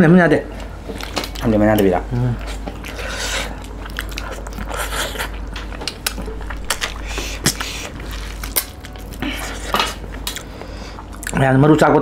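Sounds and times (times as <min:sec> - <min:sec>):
eating smacks and squishes: 0:00.5 - 0:11.5
wet chewing and mouth clicks: 0:00.5 - 0:11.5.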